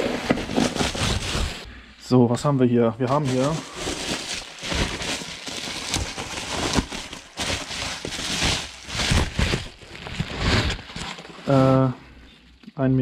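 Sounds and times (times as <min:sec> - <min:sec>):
bubble wrap crinkling: 0:00.0 - 0:01.7, 0:03.0 - 0:11.9.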